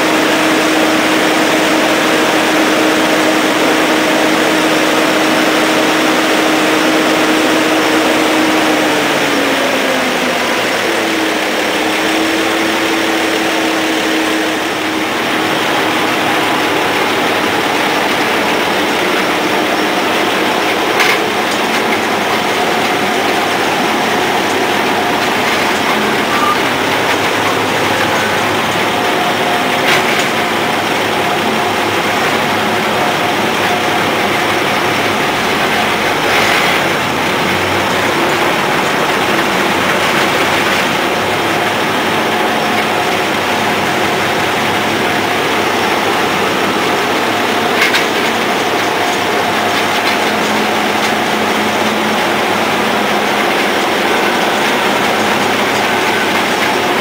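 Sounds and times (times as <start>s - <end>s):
crane diesel engine running: 0.0s - 57.0s.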